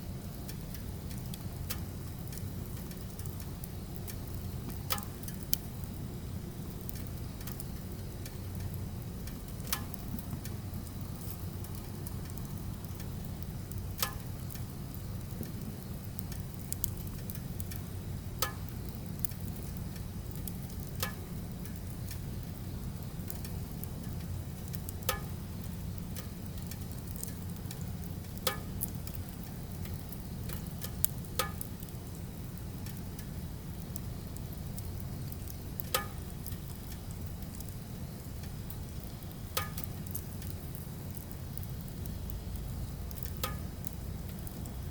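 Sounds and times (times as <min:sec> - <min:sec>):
fire low rumble: 0:00.0 - 0:44.9
wood crackling and popping: 0:00.0 - 0:44.9.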